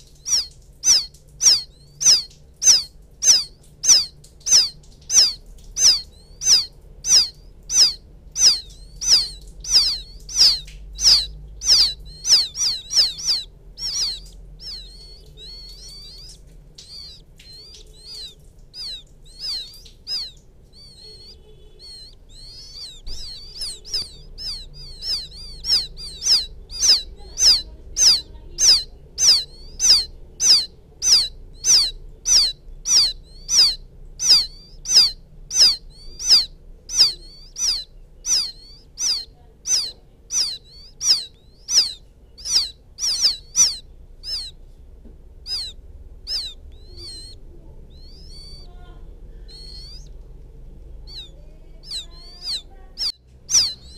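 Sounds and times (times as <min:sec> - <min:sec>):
quail chicks peeping: 0:00.0 - 0:53.9.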